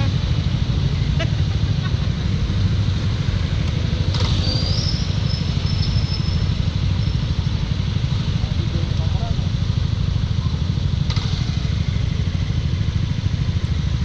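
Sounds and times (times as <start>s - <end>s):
scooter engine and road rumble: 0.0s - 14.0s.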